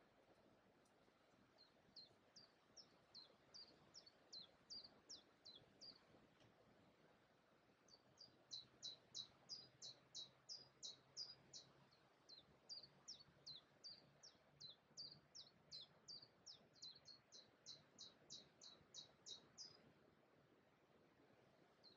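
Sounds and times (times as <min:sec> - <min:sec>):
songbird chirping: 0:00.2 - 0:21.9.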